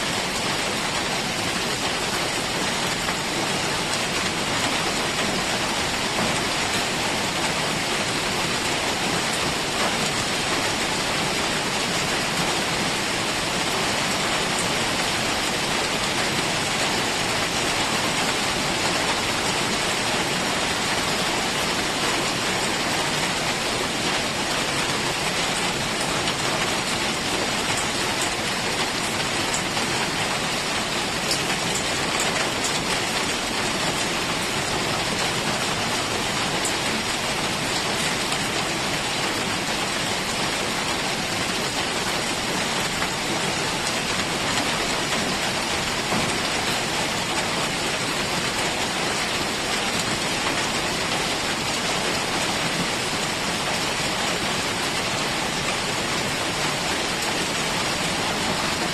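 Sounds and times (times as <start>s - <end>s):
heavy rain on foliage: 0.0s - 58.9s.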